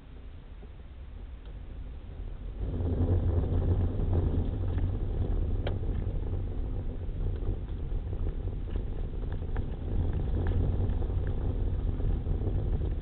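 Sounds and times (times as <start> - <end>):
car driving on gravel: 1.6 - 13.0.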